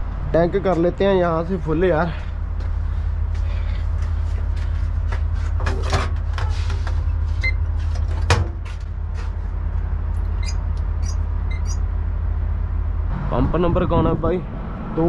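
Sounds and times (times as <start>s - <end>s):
diesel engine idling: 0.0s - 13.2s.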